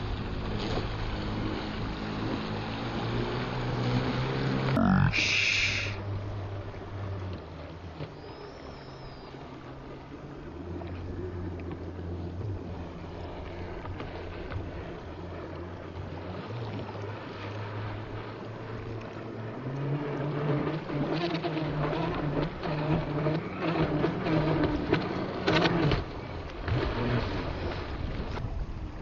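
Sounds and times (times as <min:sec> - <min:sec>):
hull slapping water: 0:00.0 - 0:29.0
model speedboat motor drone: 0:00.0 - 0:29.0.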